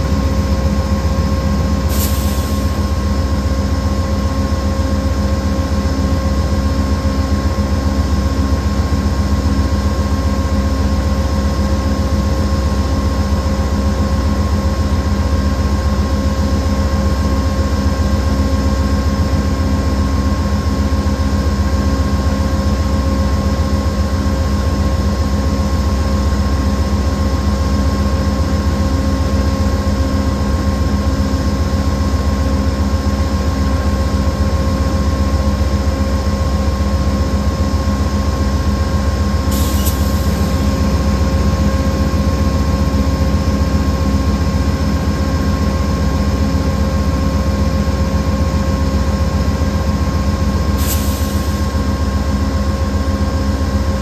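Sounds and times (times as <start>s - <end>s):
diesel locomotive engine running: 0.0s - 54.0s.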